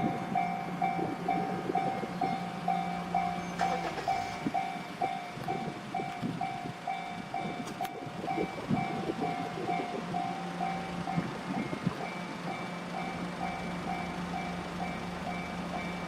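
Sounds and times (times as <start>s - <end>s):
level crossing warning bell: 0.0s - 16.0s
train passing rumble and rattle: 0.0s - 16.0s.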